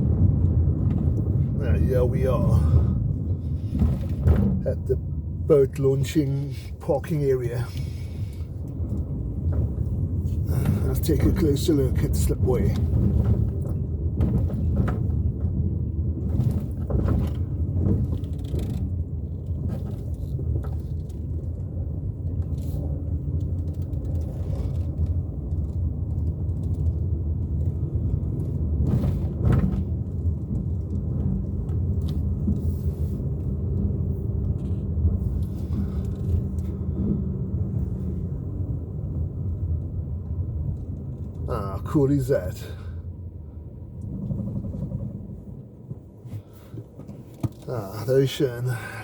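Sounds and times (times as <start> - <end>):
car cabin rumble: 0.0 - 49.0
faint engine hum: 0.0 - 49.0.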